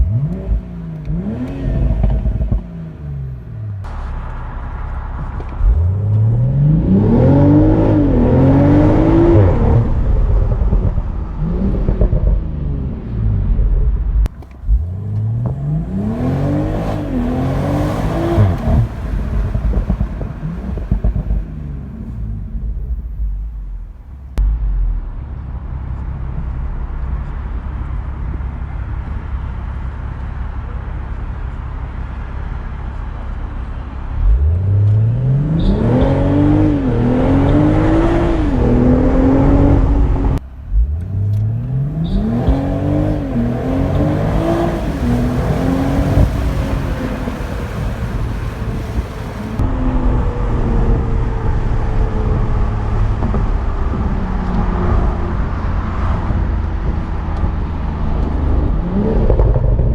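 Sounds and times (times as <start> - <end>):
car engine accelerating through gears: 0.0 - 59.9
engine and road noise drone: 0.0 - 59.9.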